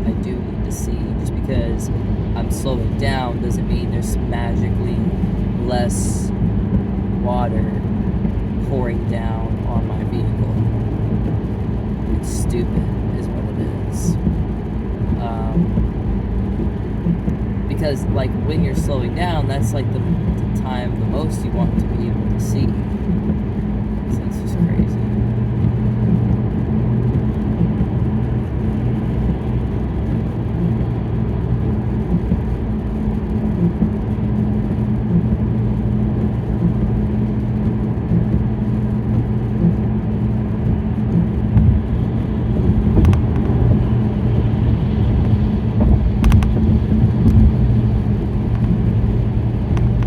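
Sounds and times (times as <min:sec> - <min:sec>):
car engine and tyre drone: 0:00.0 - 0:50.0
low hum: 0:00.0 - 0:50.0.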